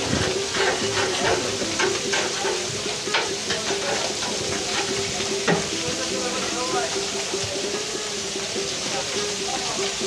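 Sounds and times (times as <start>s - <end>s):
fish and eggplant sizzling in oil: 0.0s - 10.0s.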